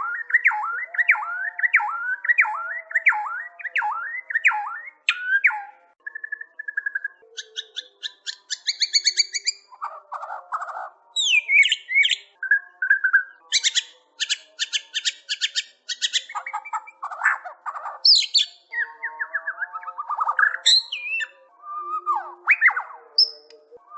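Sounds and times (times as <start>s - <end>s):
songbird singing: 0.0s - 23.9s.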